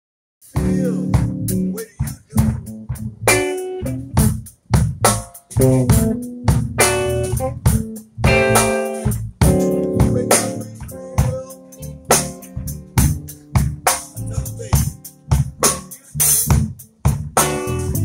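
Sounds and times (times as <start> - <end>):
drum kit hits: 0.5 - 18.0
electric guitar chords: 0.6 - 18.0.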